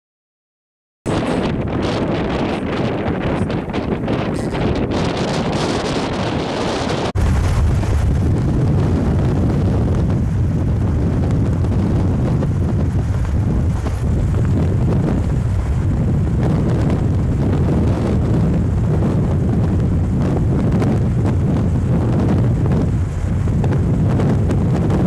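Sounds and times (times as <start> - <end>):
wind rushing over microphone: 1.1 - 25.0
car tyre and road noise: 1.2 - 25.0.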